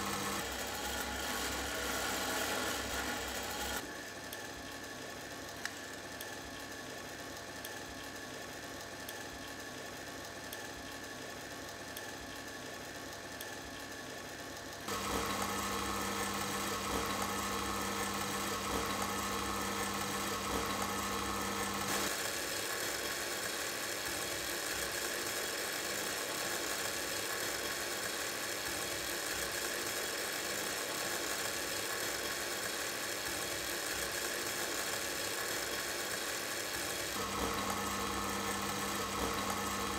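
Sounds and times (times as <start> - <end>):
machine-like hum: 0.0 - 39.9.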